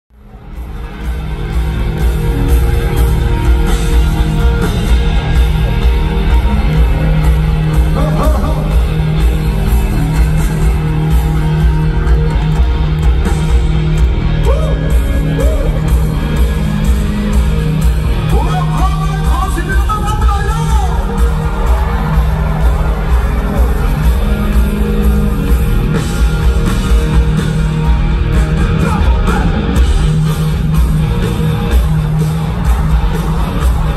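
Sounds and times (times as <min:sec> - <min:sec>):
live rock band playing: 0:00.1 - 0:33.9.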